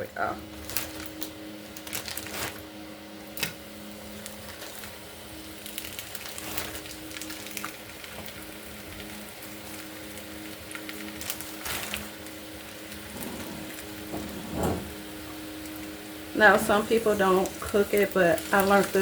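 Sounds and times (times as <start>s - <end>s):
oil sizzling in a frying pan: 0.4s - 19.0s.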